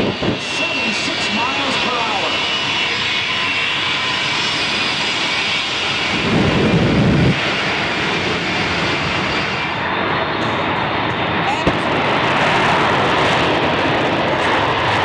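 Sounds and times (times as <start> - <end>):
deep jet blast: 0.0 - 15.0
loud jet engine rush: 0.0 - 15.0.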